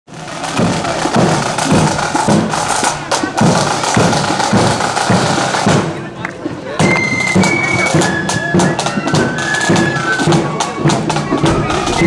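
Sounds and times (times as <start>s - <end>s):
rattling snare drums: 0.1s - 12.0s.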